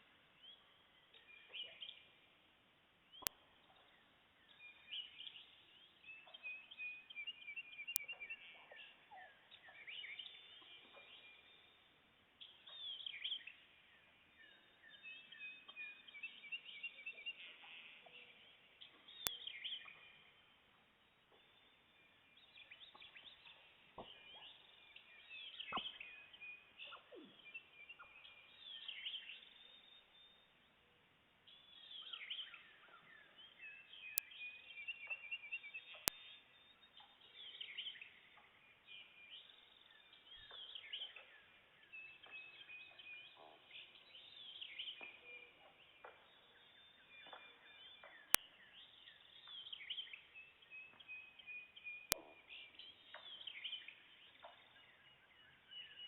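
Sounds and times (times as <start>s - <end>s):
woodland birdsong: 0.0s - 56.0s.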